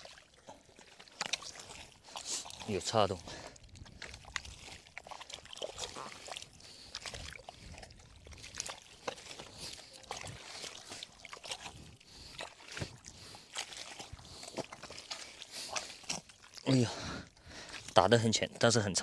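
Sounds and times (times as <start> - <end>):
hands squelching in wet mud: 0.0 - 18.2
muddy water sloshing: 0.0 - 19.0.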